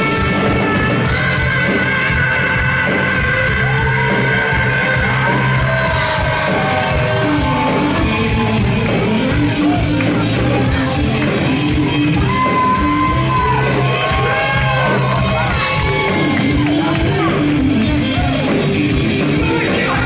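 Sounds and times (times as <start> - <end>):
live hard rock band: 0.0 - 20.0.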